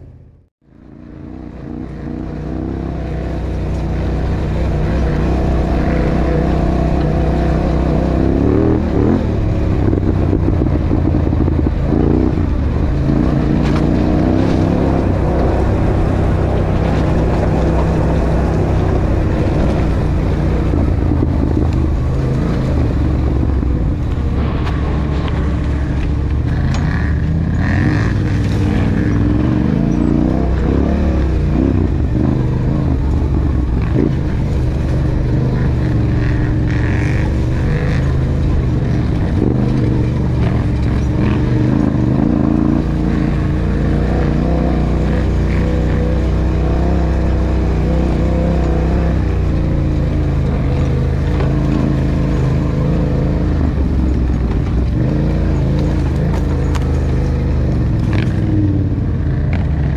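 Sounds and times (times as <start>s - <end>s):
quad engine running: 0.7s - 59.9s.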